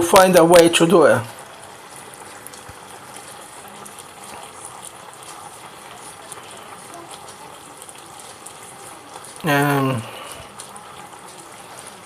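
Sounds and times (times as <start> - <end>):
pan simmering with pops: 0.0 - 12.0.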